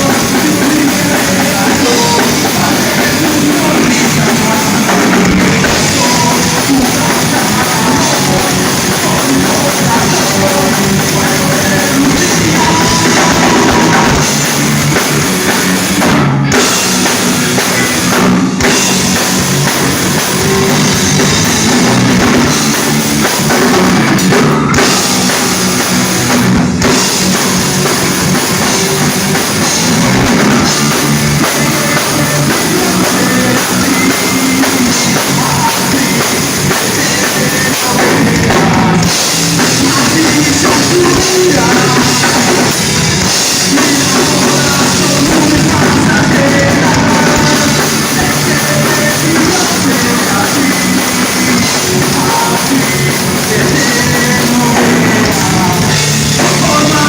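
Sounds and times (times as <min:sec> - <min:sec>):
drum kit: 0:00.0 - 0:57.0
person singing: 0:00.0 - 0:57.0
rock band playing live: 0:00.0 - 0:57.0.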